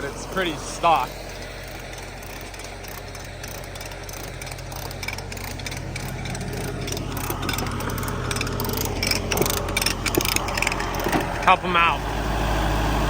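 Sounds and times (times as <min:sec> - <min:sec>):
backhoe engine under load: 0:00.0 - 0:13.0.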